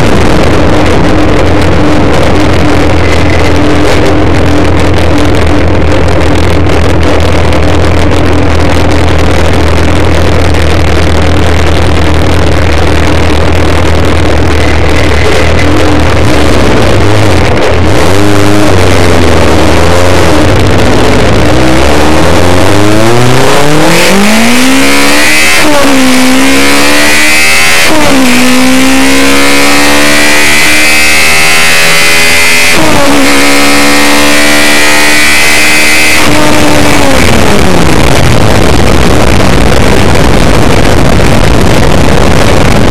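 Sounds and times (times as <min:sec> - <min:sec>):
engine intake revving: 0:00.0 - 0:39.6.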